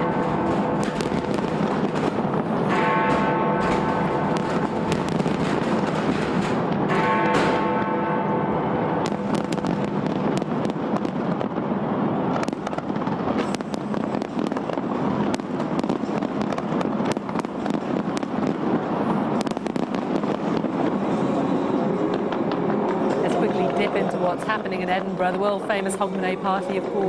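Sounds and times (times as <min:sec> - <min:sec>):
fireworks crackling: 0:00.0 - 0:08.0, 0:08.9 - 0:27.0
sharp firework bangs: 0:00.0 - 0:08.0, 0:09.0 - 0:23.9.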